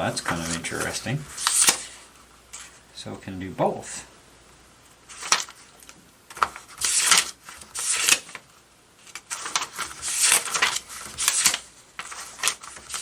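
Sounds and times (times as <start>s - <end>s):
paper pages rustling: 0.0s - 2.8s, 4.9s - 13.0s.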